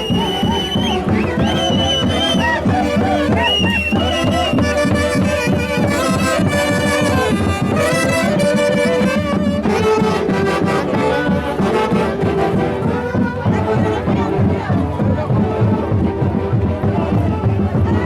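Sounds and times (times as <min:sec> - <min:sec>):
folk orchestra with wind instruments: 0:00.0 - 0:18.0.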